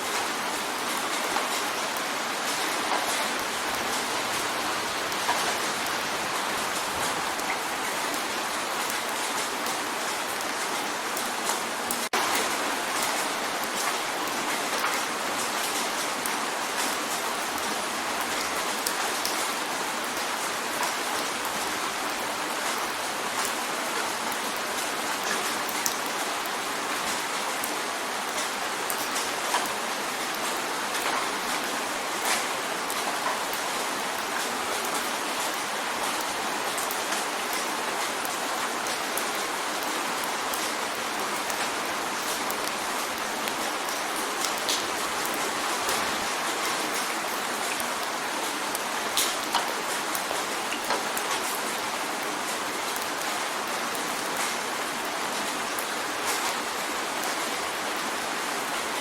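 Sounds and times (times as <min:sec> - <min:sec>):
rain pattering on a window: 0:00.0 - 0:59.0
sharp raindrop ticks: 0:00.1 - 0:56.6.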